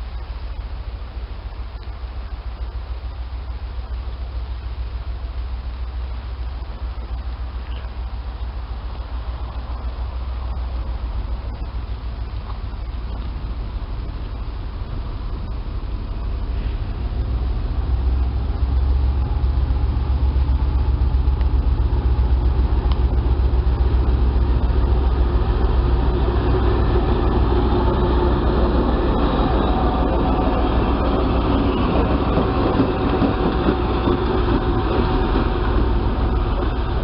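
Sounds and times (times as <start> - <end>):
diesel locomotive engines running: 0.0 - 37.0.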